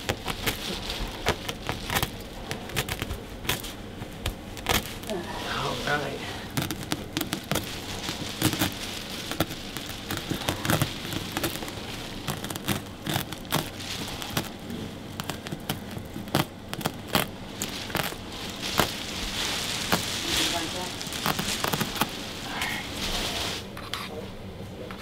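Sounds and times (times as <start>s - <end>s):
carpet crackling and tearing: 0.0s - 23.7s.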